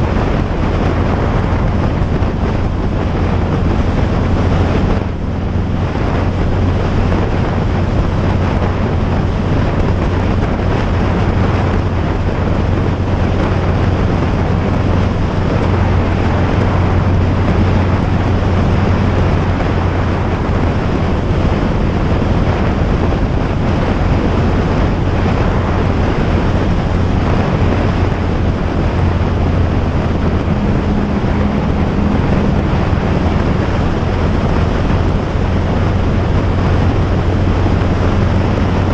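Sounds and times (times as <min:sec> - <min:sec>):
higher hum: 0:00.0 - 0:38.9
low drone: 0:00.0 - 0:38.9
wind rush on microphone: 0:00.0 - 0:38.9.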